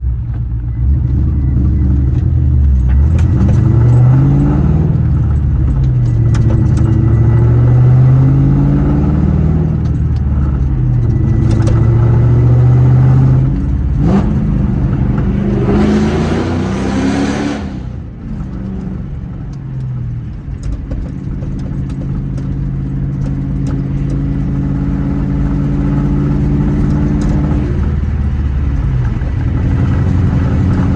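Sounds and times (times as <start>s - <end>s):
car engine revving: 0.7s - 30.9s.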